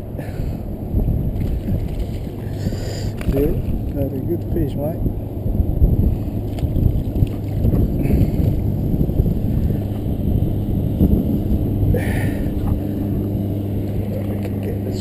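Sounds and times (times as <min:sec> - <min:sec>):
steady low hum: 0:00.0 - 0:15.0
wind noise on microphone: 0:00.0 - 0:15.0.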